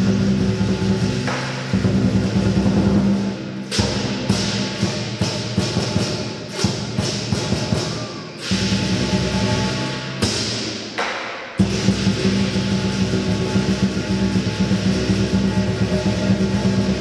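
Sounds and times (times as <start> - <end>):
cymbal clashes: 0.0 - 17.0
drum strikes: 0.0 - 17.0.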